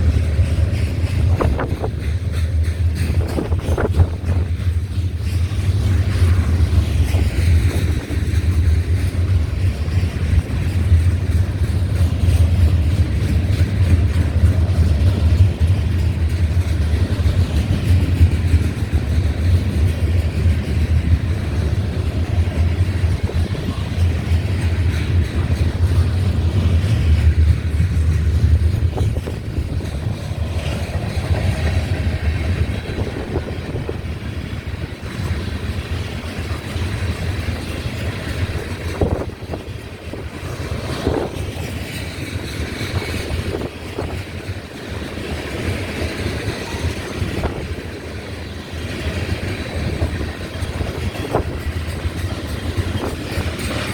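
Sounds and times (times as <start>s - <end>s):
freight train rumbling past: 0.0s - 53.9s
wind buffeting microphone: 0.0s - 53.9s.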